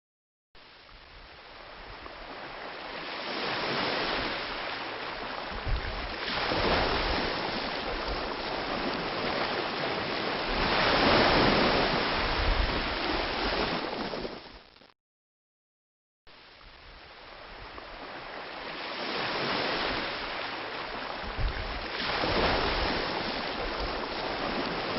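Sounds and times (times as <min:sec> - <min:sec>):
ocean waves breaking on beach: 0:00.6 - 0:14.7, 0:16.4 - 0:24.9.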